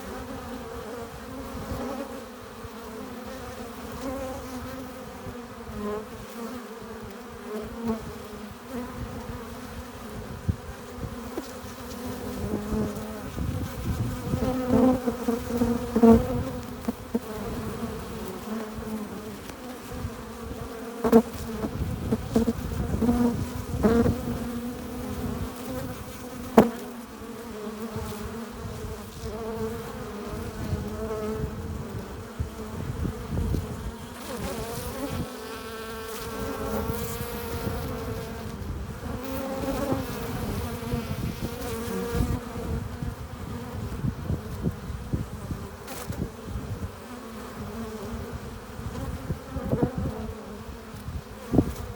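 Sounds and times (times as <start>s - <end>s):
bees buzzing: 0.0s - 51.9s.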